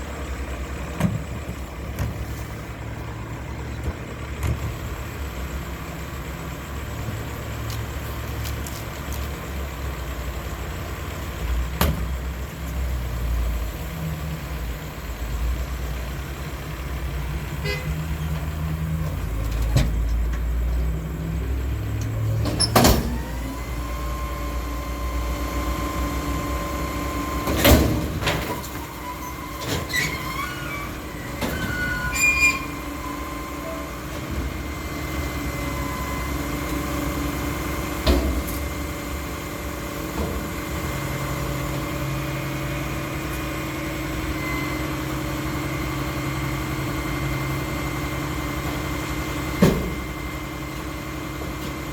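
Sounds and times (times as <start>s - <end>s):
garbage truck engine drone: 0.0s - 51.9s.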